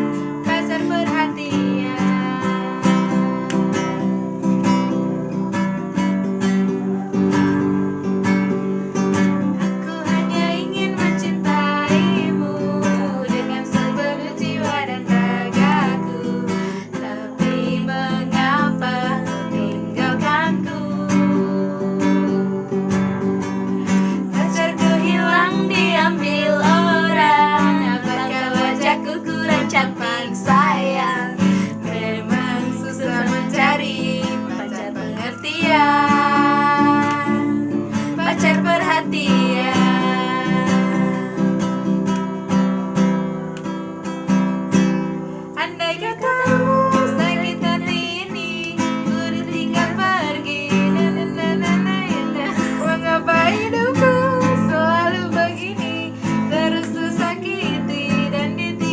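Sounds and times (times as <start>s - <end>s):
person singing: 0.0s - 4.4s, 9.4s - 22.9s, 23.7s - 42.0s, 45.6s - 58.9s
strummed acoustic guitar: 0.0s - 58.9s.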